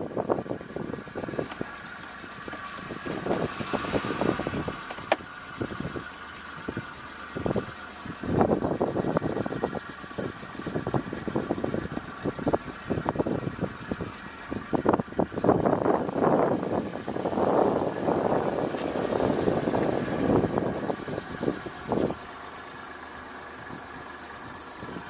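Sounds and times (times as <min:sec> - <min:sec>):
car engine struggling to start: 0:00.1 - 0:25.0.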